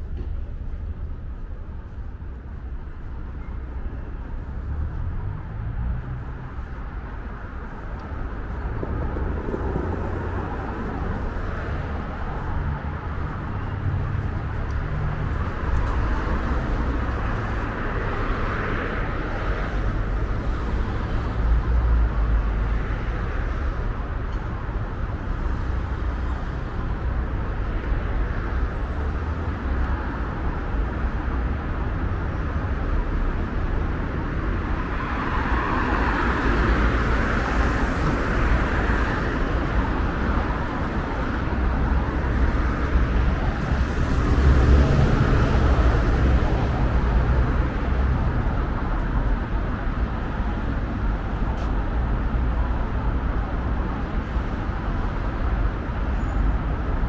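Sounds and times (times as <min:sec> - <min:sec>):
cars passing on street: 0:00.0 - 0:57.0.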